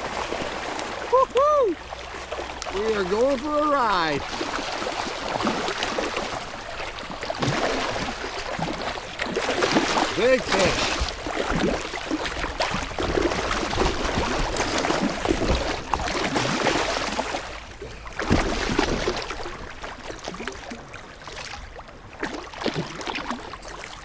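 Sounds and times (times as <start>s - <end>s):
water splashing around kayak: 0.0s - 24.0s.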